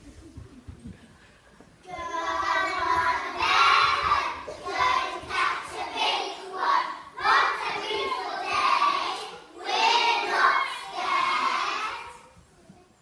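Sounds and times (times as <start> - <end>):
young children singing together: 1.8 - 12.4.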